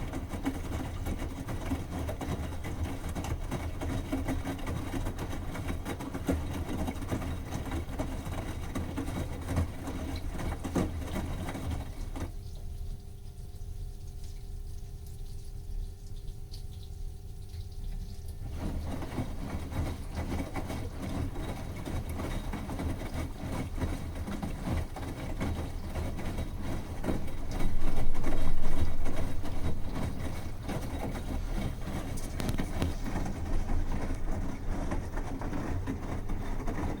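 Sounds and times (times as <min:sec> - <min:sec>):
washing machine drum churning: 0:00.0 - 0:37.0.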